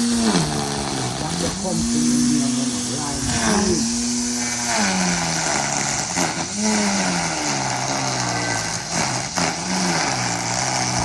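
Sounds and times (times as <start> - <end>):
construction machinery engine running: 0.0 - 11.0.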